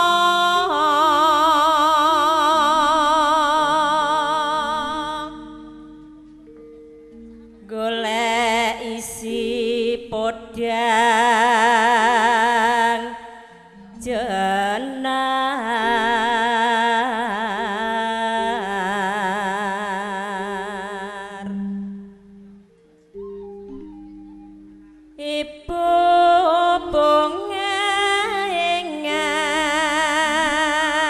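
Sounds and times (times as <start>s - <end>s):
woman singing with vibrato: 0.0s - 6.2s, 7.6s - 22.2s, 25.2s - 31.0s
sustained gamelan tones: 0.0s - 31.0s.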